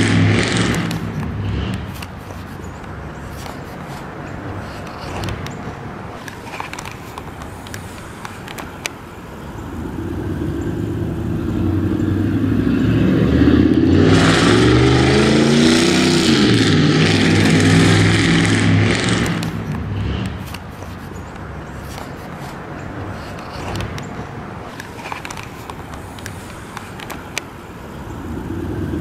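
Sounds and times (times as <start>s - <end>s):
vehicle engine passing: 0.0s - 29.0s.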